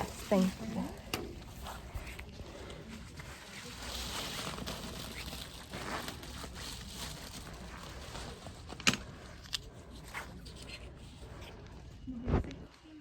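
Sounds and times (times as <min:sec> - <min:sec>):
bags rustling and crinkling: 0:00.0 - 0:12.1.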